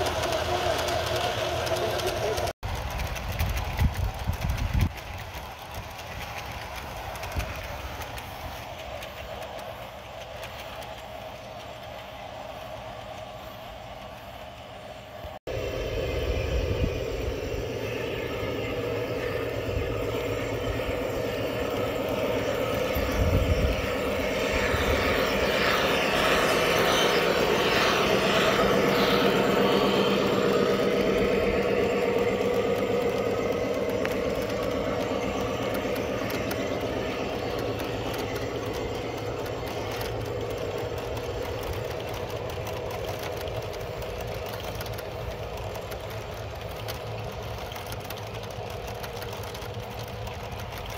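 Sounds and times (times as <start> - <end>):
model train rolling on rails: 0.0 - 50.9.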